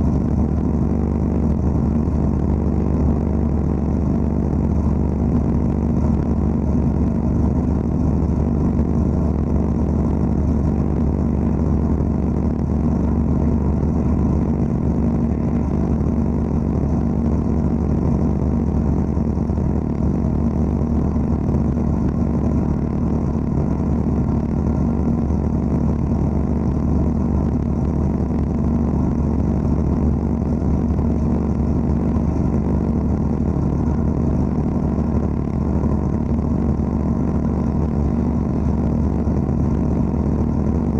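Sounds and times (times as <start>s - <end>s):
blasting cabinet machine drone: 0.0s - 40.9s.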